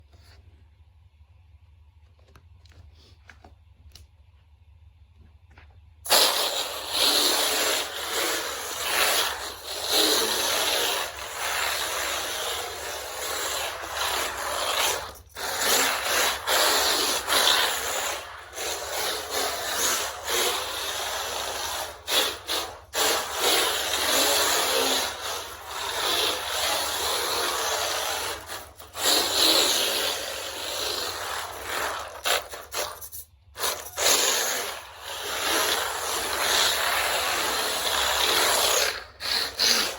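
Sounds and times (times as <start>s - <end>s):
electric toy car motor: 6.1s - 39.9s.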